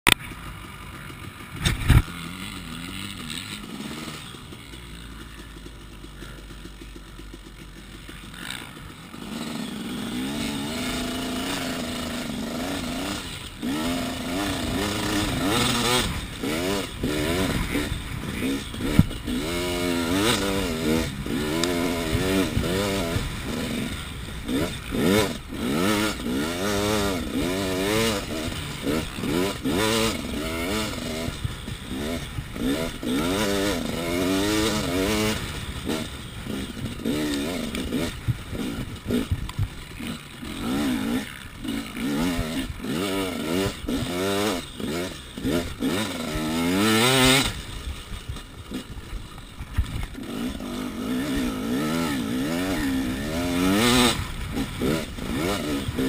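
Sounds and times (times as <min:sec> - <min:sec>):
dirt bike engine revving: 0:00.1 - 0:56.0.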